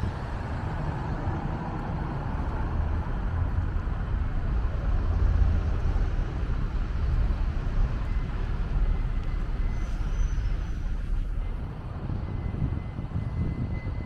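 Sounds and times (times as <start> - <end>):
passing cars rumble: 0.0 - 14.0.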